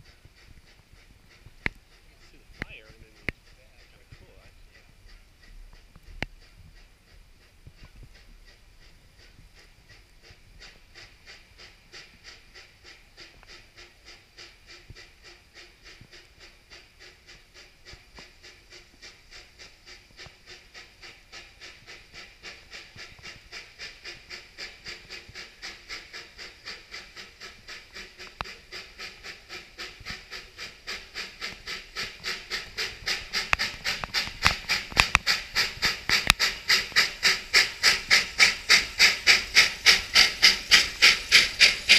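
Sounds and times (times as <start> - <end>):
steam locomotive exhaust chuffing: 0.0 - 41.9.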